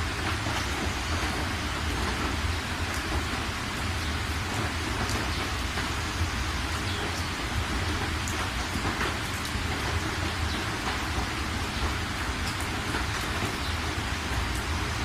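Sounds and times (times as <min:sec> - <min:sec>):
individual raindrops: 0:00.0 - 0:15.0
steady rain falling: 0:00.0 - 0:15.0.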